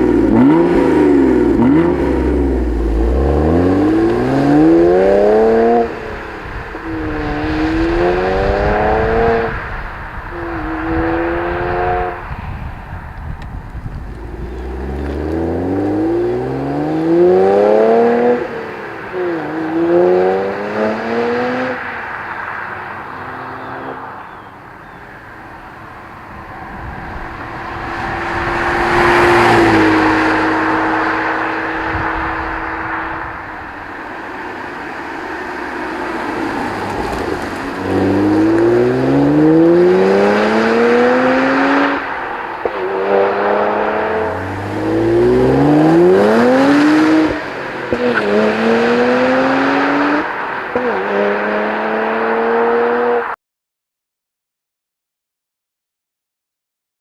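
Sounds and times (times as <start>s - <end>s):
car engine accelerating hard: 0.0s - 53.4s
car passing by: 0.0s - 53.4s.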